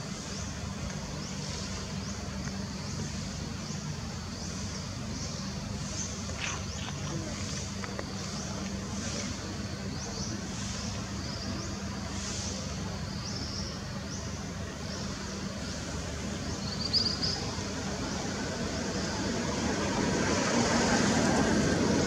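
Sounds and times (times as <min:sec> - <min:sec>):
outdoor background hum: 0:00.0 - 0:22.0.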